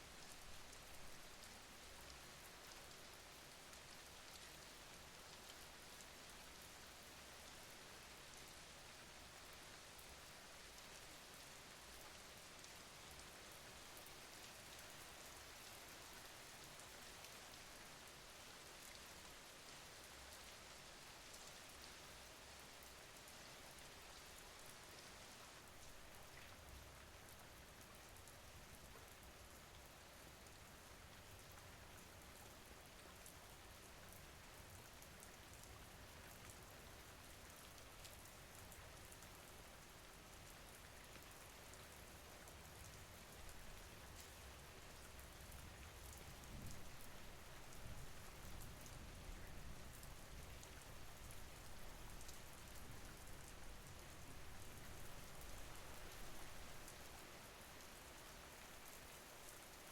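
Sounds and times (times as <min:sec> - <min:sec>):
faint rain patter: 0:00.0 - 0:59.9.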